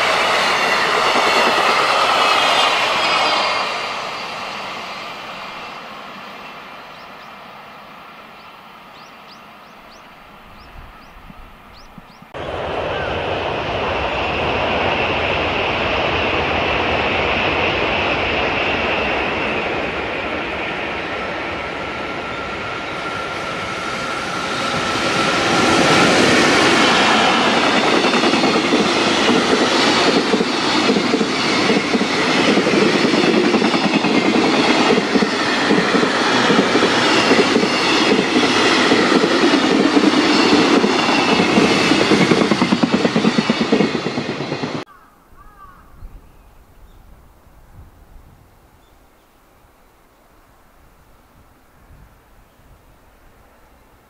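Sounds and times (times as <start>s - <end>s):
electric locomotive whine: 0.0s - 54.0s.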